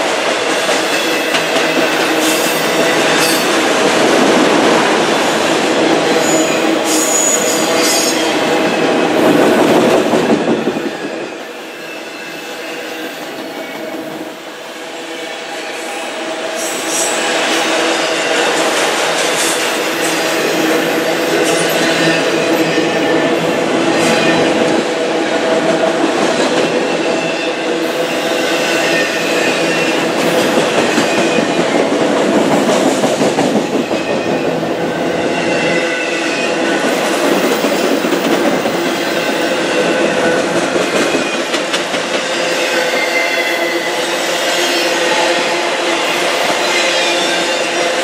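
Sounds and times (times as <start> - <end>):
train wheels clattering on rails: 0.0 - 14.5, 15.4 - 48.0.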